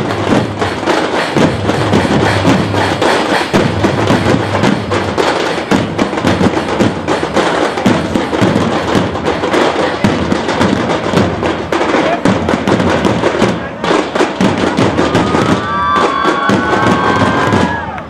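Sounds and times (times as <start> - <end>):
dhol drum: 0.0 - 17.8
tasha drum strokes: 0.0 - 17.9.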